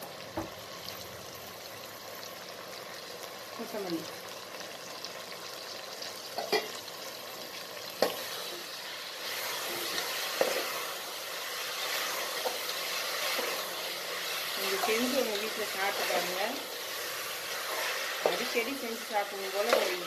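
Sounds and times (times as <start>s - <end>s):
onions sizzling in a pot: 0.0s - 20.0s.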